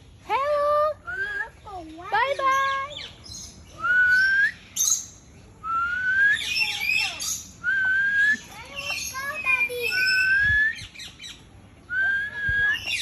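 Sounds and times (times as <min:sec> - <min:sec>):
bird whistling: 0:01.0 - 0:01.6, 0:02.6 - 0:13.0
bird chirps: 0:01.0 - 0:13.0.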